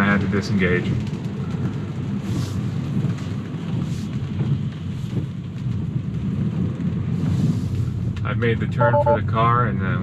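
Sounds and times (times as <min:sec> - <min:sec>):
road and tyre noise in car cabin: 0:00.0 - 0:10.0.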